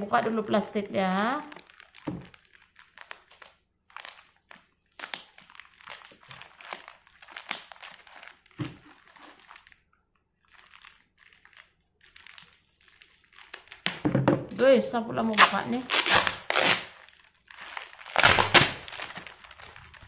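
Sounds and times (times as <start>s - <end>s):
plastic wrapping crinkling: 0.1s - 14.2s, 15.2s - 20.0s.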